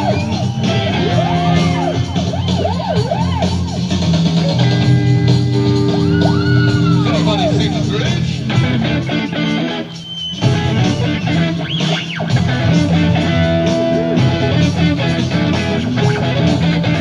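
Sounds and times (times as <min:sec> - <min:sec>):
bass guitar: 0:00.0 - 0:17.0
electric guitar playing rock: 0:00.0 - 0:17.0.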